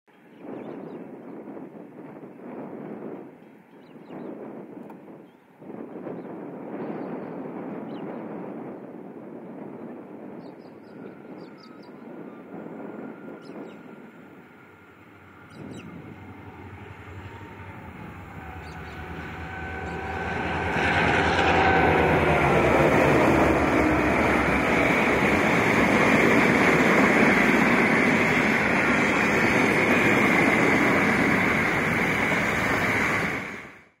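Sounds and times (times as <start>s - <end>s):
diesel locomotive engines: 0.2s - 34.0s.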